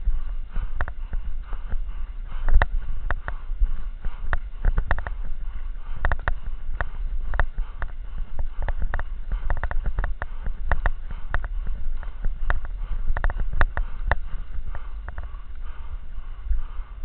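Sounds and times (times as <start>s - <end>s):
low rumble of movement: 0.0s - 17.0s
sharp clicks and knocks: 0.7s - 1.8s, 2.4s - 3.4s, 4.2s - 15.6s.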